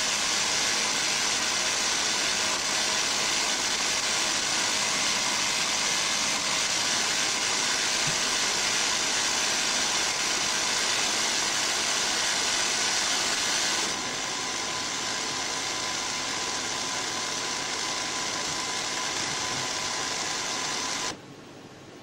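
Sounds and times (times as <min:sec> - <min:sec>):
computer equipment humming: 0:00.0 - 0:21.2.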